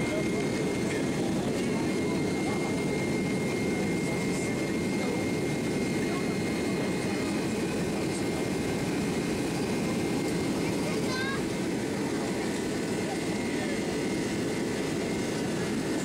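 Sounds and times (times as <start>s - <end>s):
high engine whine: 0.0s - 16.0s
jet engines rumbling at takeoff: 0.0s - 16.0s.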